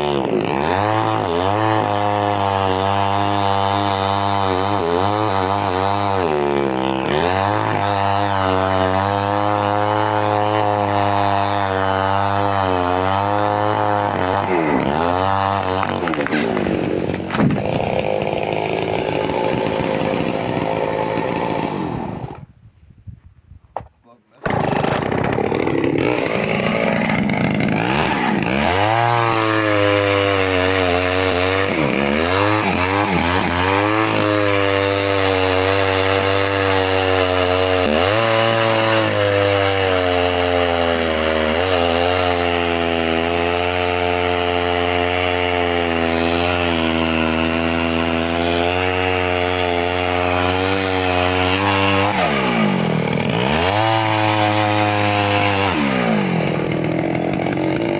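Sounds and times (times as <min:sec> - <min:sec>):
chainsaw cutting wood: 0:00.0 - 0:22.5, 0:23.8 - 0:57.9.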